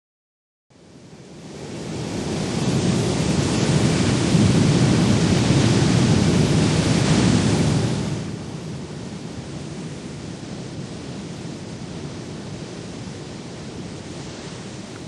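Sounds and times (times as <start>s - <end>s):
stormy wind: 0.8s - 15.0s
sea surf: 1.4s - 15.0s.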